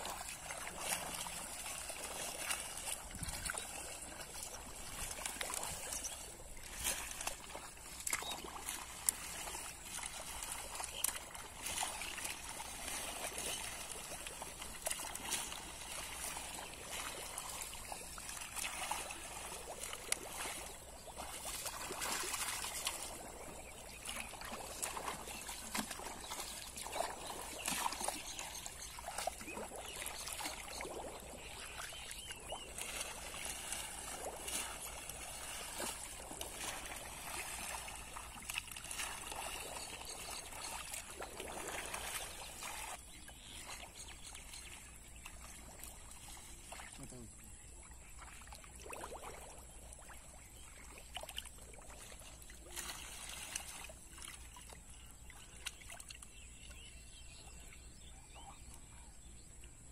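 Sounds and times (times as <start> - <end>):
shallow water sloshing and splashing: 0.0 - 59.2.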